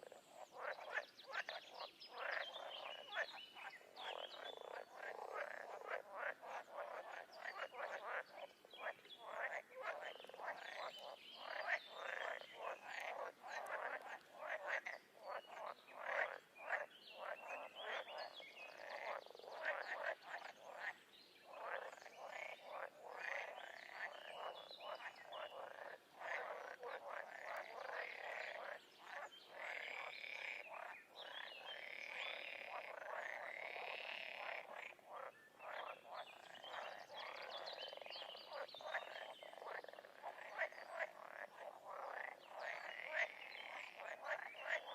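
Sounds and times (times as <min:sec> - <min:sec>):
frogs croaking in chorus: 0:00.0 - 0:44.9.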